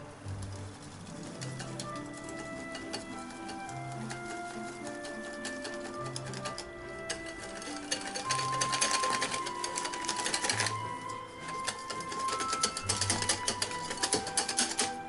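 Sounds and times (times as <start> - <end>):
background music: 0.0 - 15.0
whisk clicking against glass bowl: 0.5 - 15.0.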